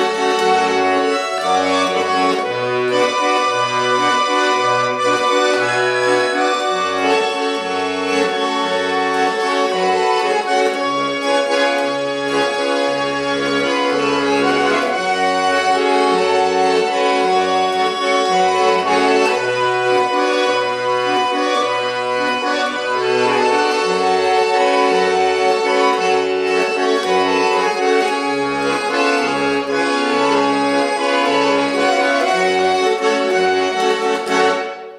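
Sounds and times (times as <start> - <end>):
accordion playing: 0.0 - 34.9.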